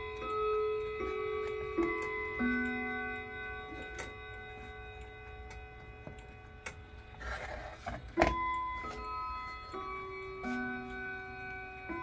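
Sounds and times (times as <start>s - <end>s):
clock chime ringing: 0.0s - 12.0s.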